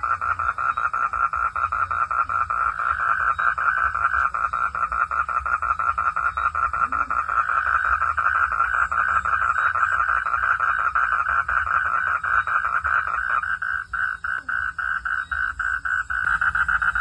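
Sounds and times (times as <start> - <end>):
frogs calling in pulsed chorus: 0.0 - 17.0.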